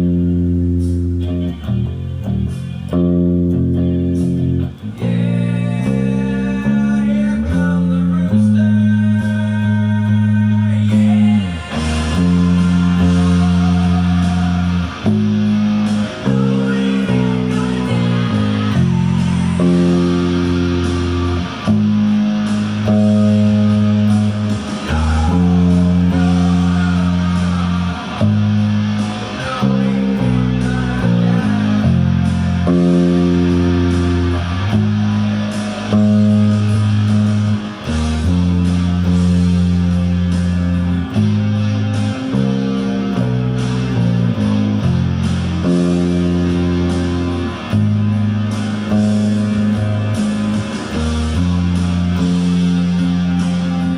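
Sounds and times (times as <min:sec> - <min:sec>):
bass guitar: 0:00.0 - 0:53.9
electric guitar chords: 0:00.0 - 0:53.9
rock music: 0:00.0 - 0:53.9.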